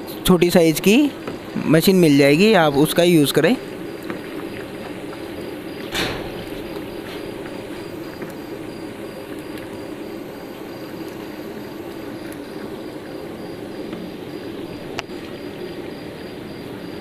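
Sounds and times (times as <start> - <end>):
oil sizzling and bubbling: 0.0 - 17.0.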